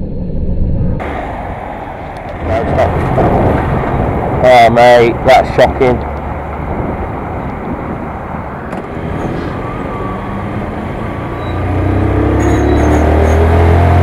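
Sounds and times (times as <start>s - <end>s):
heavy low drone: 0.0s - 14.0s
motorcycle engine: 0.0s - 14.0s
road noise: 0.0s - 14.0s.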